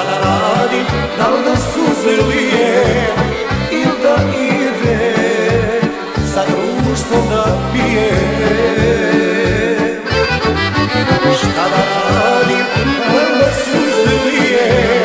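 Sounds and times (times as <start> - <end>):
accordion: 0.0 - 15.0
folk band playing: 0.0 - 15.0.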